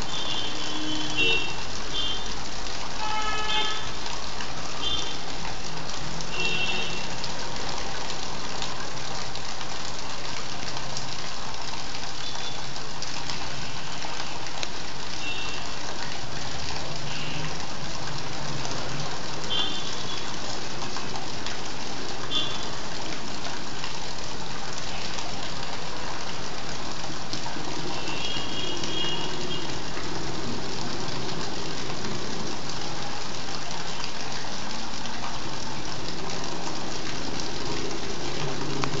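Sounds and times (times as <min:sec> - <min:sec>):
water pouring onto concrete: 0:00.0 - 0:39.0.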